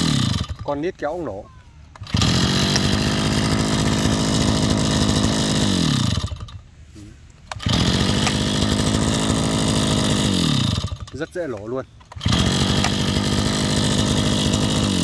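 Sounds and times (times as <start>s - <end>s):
engine starting up: 0.0s - 0.8s, 2.0s - 6.6s, 7.5s - 15.0s
brush cutter engine idling: 0.0s - 15.0s.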